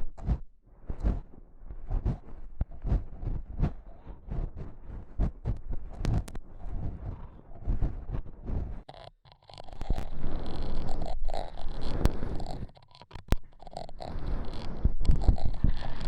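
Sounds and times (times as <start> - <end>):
scratching on microphone: 0.0 - 16.0.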